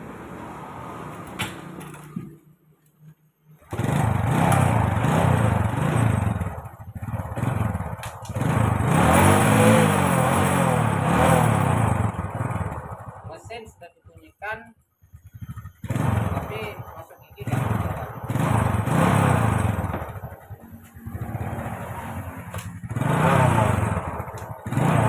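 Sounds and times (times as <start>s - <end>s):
motorcycle engine revving: 3.5s - 25.0s.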